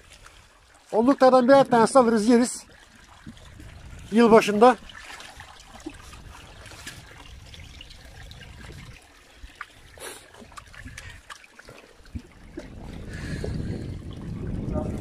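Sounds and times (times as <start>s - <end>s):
water trickling in concrete channel: 0.0s - 15.0s
water splash: 1.6s - 15.0s.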